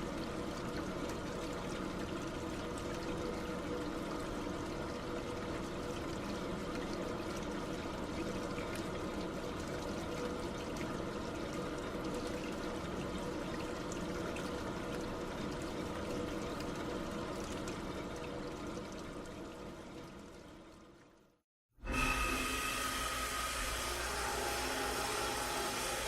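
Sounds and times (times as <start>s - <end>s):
water running and trickling: 0.0s - 21.4s.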